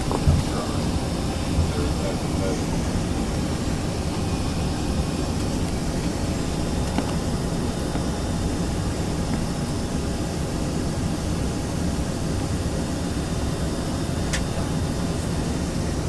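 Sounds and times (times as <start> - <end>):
jet cabin air rush and hum: 0.0 - 16.0.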